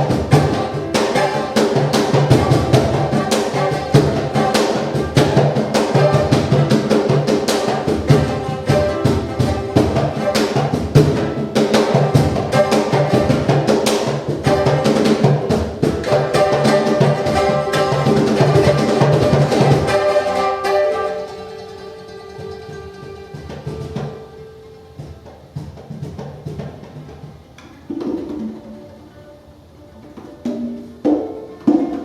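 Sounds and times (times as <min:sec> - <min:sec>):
mid-range pitched tones: 0:00.0 - 0:26.2
congas played quickly: 0:00.0 - 0:32.0.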